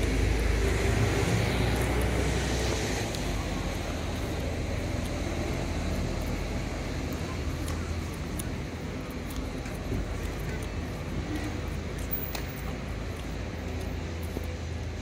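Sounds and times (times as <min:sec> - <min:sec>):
low vehicle rumble: 0:00.0 - 0:15.0
traffic hum: 0:00.0 - 0:15.0.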